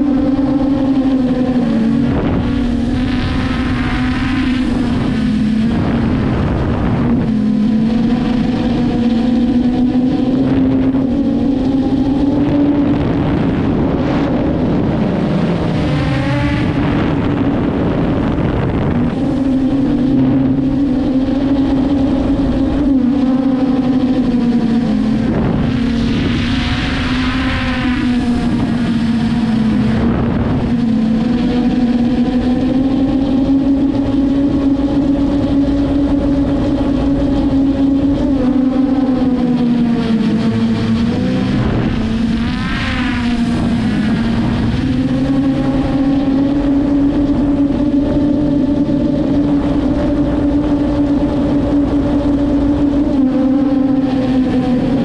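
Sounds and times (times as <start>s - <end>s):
drone propellers droning hum: 0.0s - 55.0s.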